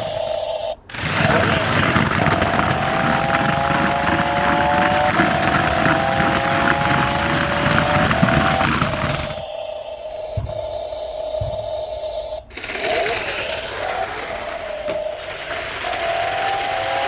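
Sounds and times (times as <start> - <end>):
wheels hissing on the ground: 0.0 - 9.4, 12.5 - 17.0
toy truck electric motor whine: 0.0 - 9.5, 12.5 - 17.0.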